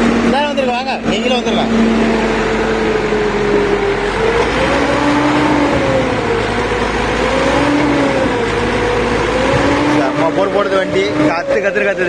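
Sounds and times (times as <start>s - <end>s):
loading machine engine whine: 0.0s - 12.0s
low pulsing tone: 0.0s - 12.0s.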